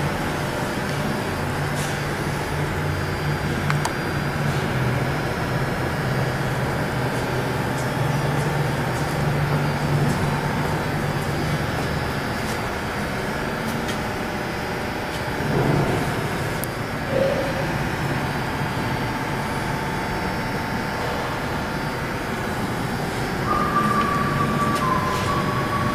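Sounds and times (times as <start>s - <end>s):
electric drive humming: 0.0s - 25.9s.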